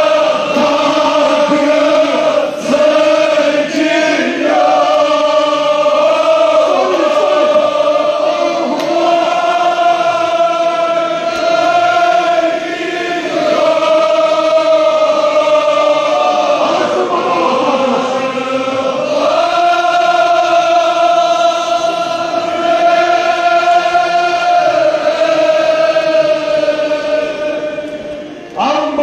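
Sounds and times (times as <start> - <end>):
crowd of men chanting: 0.0 - 27.9.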